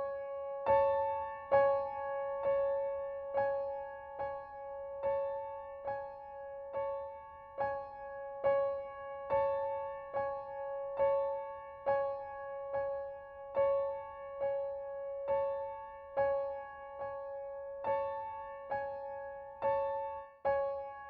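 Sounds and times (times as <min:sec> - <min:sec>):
gentle piano-like ringtone melody: 0:00.0 - 0:21.0.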